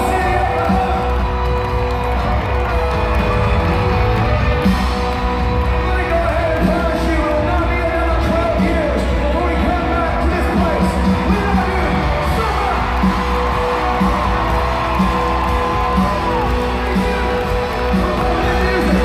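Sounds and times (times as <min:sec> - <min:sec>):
fans whooping: 0:00.0 - 0:19.0
live country band playing: 0:00.0 - 0:19.0.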